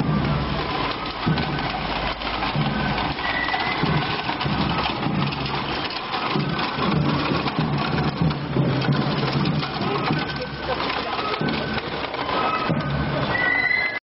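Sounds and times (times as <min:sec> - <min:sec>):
cannon cart rolling over stone: 0:00.0 - 0:14.0.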